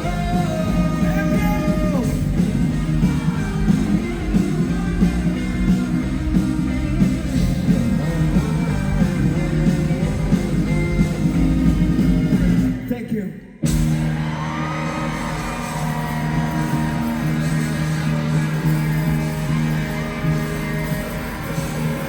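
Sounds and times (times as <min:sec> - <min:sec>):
electric guitar: 0:00.0 - 0:12.9, 0:13.6 - 0:22.0
bass guitar: 0:00.0 - 0:13.0, 0:13.6 - 0:22.0
drums: 0:00.0 - 0:22.0.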